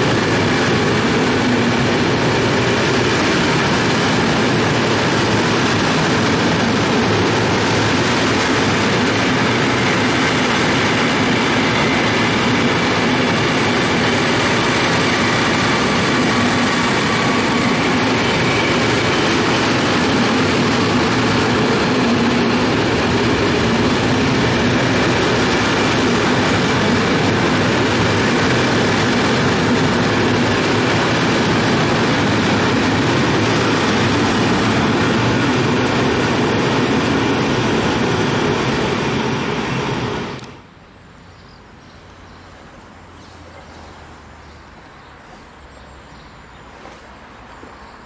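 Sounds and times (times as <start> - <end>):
freight train wheels on rails: 0.0 - 48.0.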